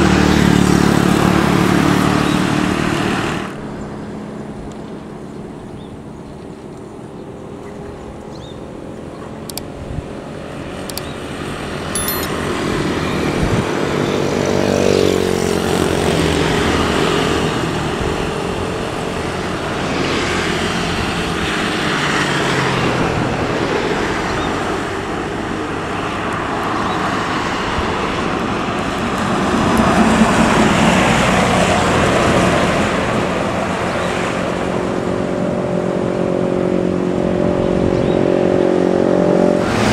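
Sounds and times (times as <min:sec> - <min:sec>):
bus driving past: 0:00.0 - 0:09.5, 0:10.1 - 0:39.9
motorcycles passing: 0:00.0 - 0:39.9.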